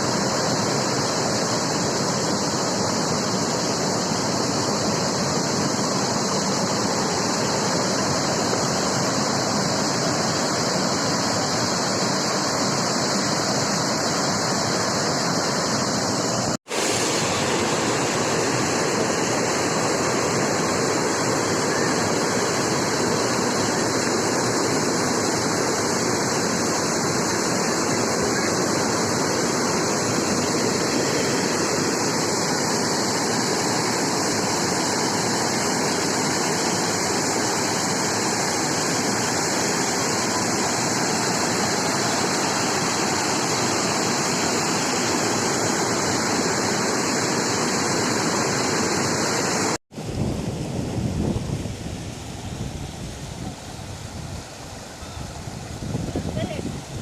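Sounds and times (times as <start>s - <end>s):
rushing water roar: 0.0s - 57.0s.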